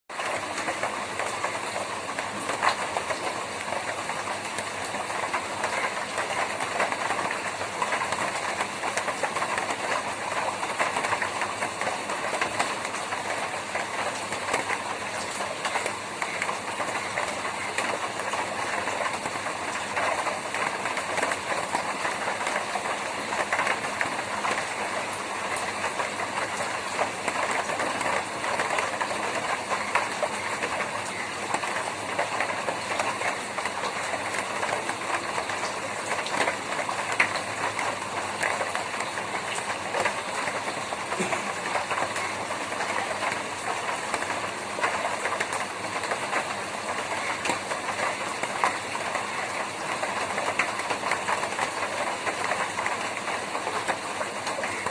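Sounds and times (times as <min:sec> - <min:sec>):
rain on a tin roof: 0:00.1 - 0:54.9.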